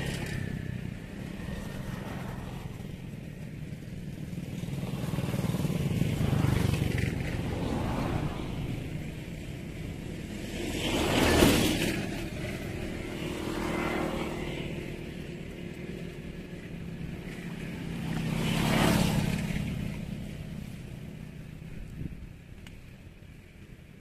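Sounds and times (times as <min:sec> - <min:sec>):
road vehicles passing: 0:00.0 - 0:24.0.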